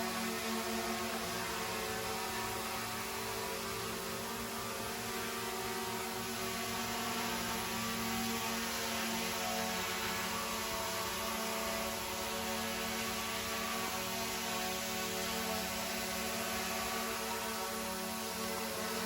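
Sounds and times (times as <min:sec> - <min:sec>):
drone buzzing whir: 0:00.0 - 0:19.0.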